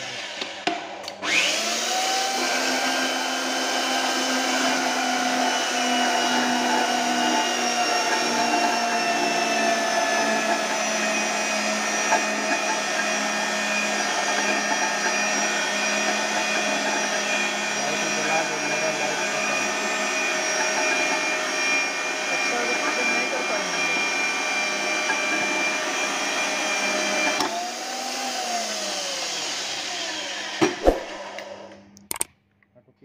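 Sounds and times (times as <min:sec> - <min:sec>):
pipe threading machine motor whine: 0:00.0 - 0:32.3.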